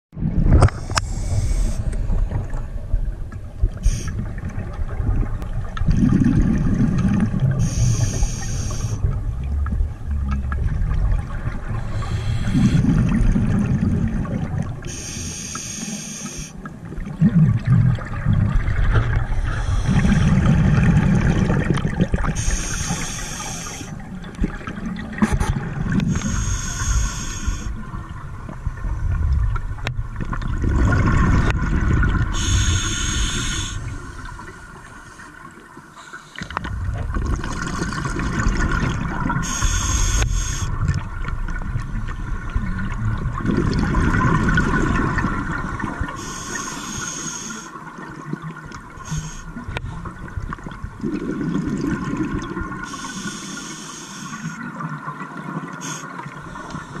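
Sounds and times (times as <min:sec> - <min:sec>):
exhaled bubbles rumbling: 0:00.1 - 0:15.0, 0:16.6 - 0:35.8, 0:36.4 - 0:46.6, 0:47.7 - 0:53.0.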